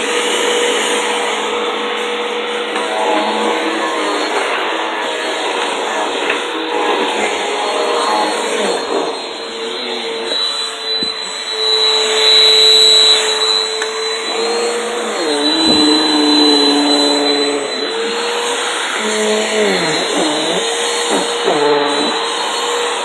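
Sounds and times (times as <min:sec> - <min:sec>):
vacuum cleaner motor whining: 0:00.0 - 0:23.0.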